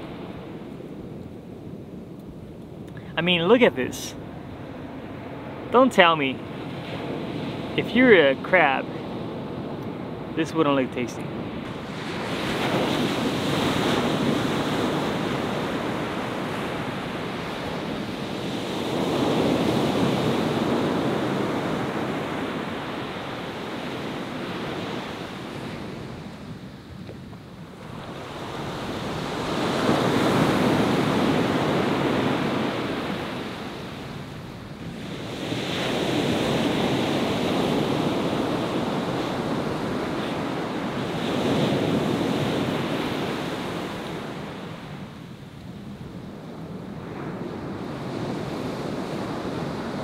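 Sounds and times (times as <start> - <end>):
ocean surf breaking on beach: 0.0 - 50.0.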